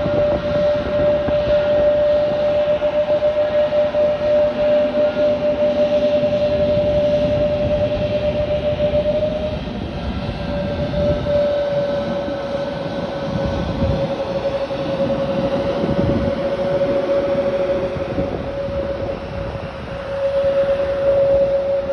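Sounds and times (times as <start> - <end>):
jet engine whine: 0.0 - 21.9.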